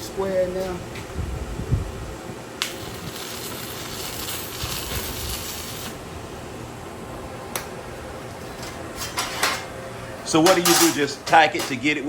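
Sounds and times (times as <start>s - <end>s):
welding arc sizzling: 0.0s - 12.0s.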